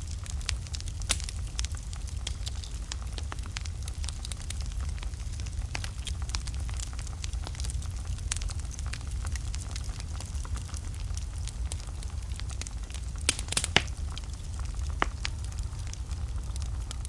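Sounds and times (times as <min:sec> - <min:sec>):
sharp fire pops: 0:00.0 - 0:17.0
wood fire crackling: 0:00.0 - 0:17.0.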